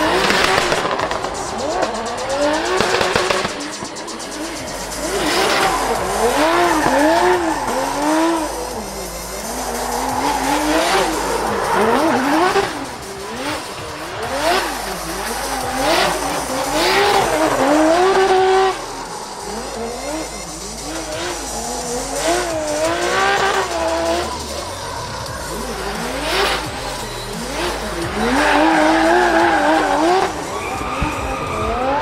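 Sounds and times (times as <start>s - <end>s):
car engine revving: 0.0s - 32.0s
tyres squealing: 0.0s - 32.0s.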